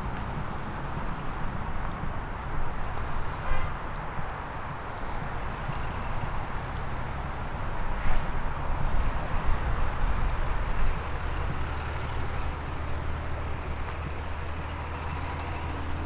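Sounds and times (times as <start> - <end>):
footsteps on trail: 0.0 - 16.0
vehicle engine rumbling: 0.0 - 16.0.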